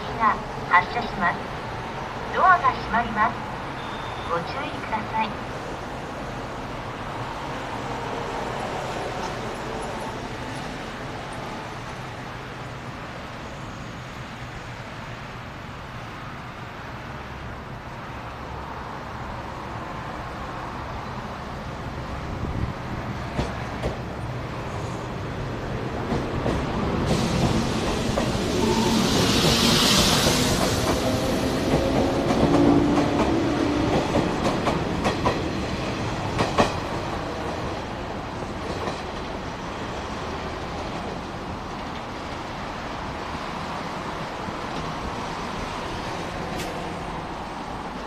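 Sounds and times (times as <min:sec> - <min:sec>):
electric train rumble: 0:00.0 - 0:48.0.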